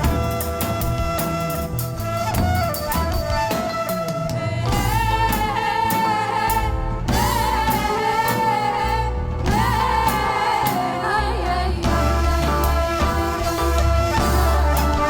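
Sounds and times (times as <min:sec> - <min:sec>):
bass and instrumental backing: 0:00.0 - 0:15.0.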